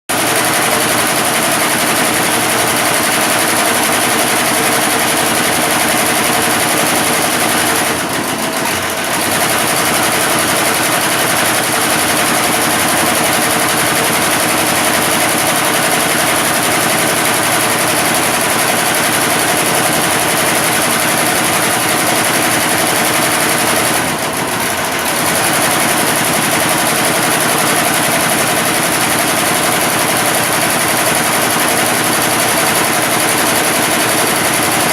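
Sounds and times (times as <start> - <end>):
embroidery machine rattling: 0.1 - 34.9.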